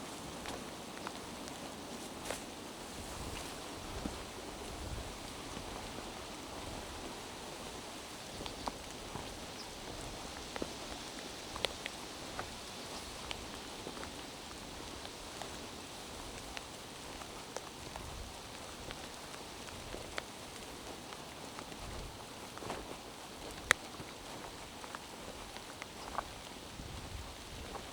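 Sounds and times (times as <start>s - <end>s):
rain falling: 0.0s - 27.9s
drips striking leaves: 0.3s - 26.7s.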